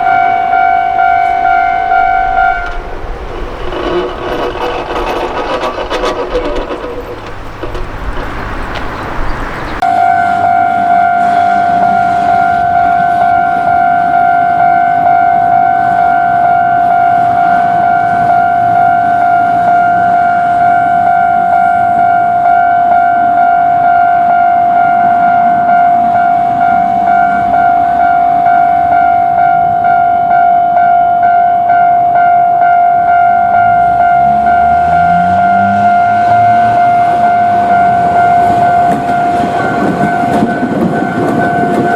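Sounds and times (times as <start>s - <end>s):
level crossing warning bell ringing: 0.0s - 41.9s.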